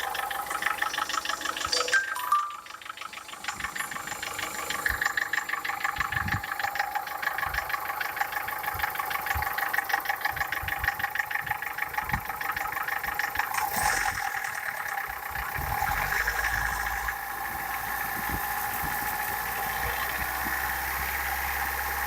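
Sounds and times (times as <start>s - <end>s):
engine running with knocking: 0.0s - 22.0s.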